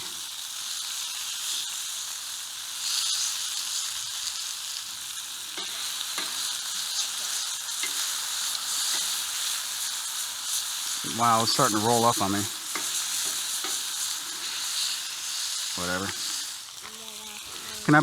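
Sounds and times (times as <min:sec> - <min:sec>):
bacon sizzling on a griddle: 0:00.0 - 0:18.0.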